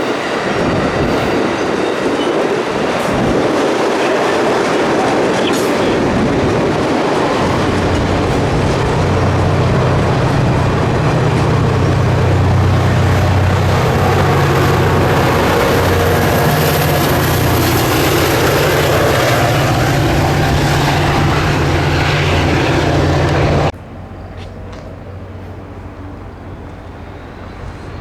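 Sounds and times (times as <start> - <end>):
diesel train running close by: 0.0 - 28.0.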